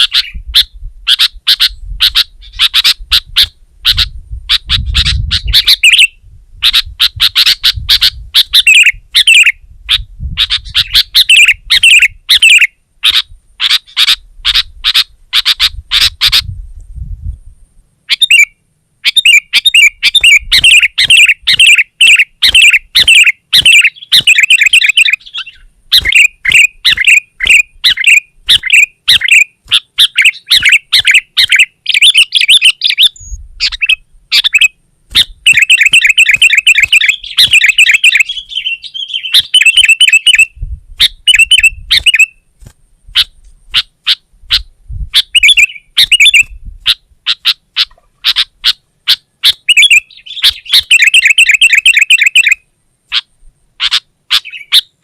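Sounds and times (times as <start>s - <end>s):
bird chattering song: 0.0s - 16.5s, 18.0s - 42.5s, 43.1s - 55.0s.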